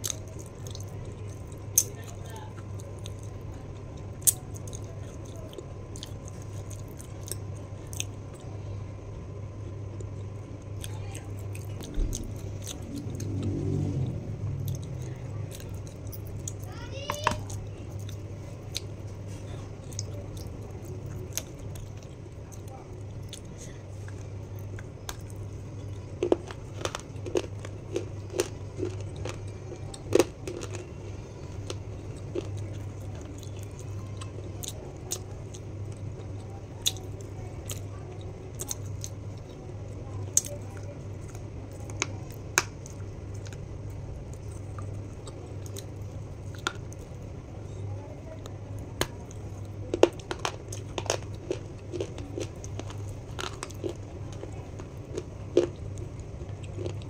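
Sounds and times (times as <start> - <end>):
chewing: 0.0 - 8.5, 9.6 - 57.0
crunching crisp chips: 10.0 - 47.1, 48.3 - 57.0.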